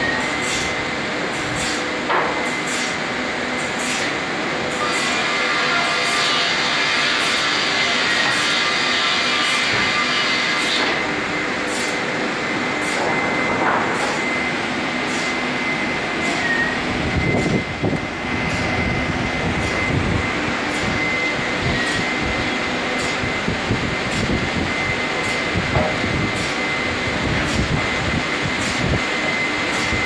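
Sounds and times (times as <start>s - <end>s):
sawmill machinery whine: 0.0s - 30.0s.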